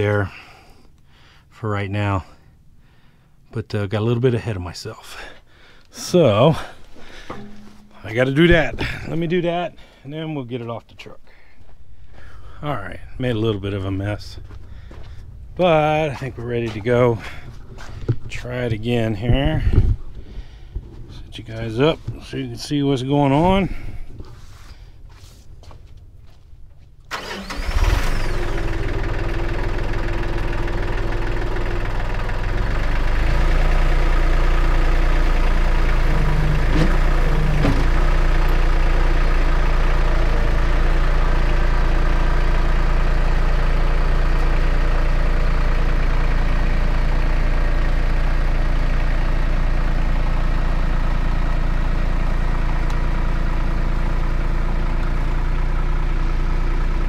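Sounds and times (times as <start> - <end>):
tractor engine cranking and running: 5.8 - 57.0.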